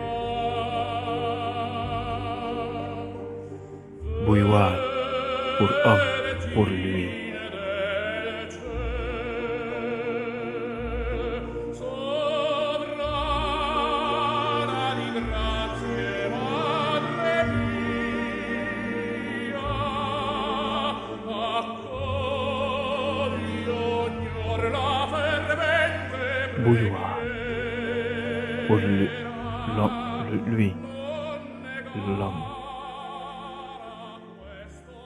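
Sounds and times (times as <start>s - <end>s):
orchestral accompaniment: 0.0s - 35.0s
operatic singing with vibrato: 4.0s - 35.0s.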